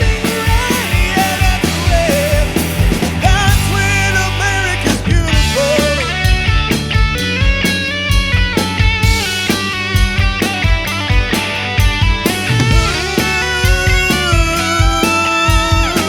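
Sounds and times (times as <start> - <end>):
bass guitar: 0.0 - 16.0
drum kit beat: 0.0 - 16.0
electric guitar: 0.0 - 16.0.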